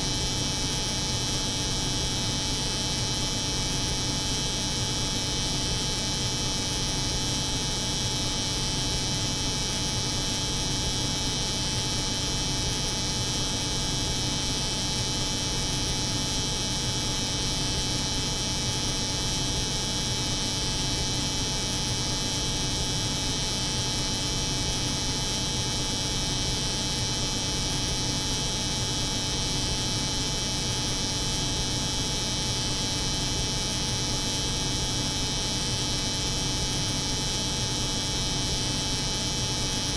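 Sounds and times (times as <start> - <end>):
refrigeration unit hum: 0.0 - 39.9.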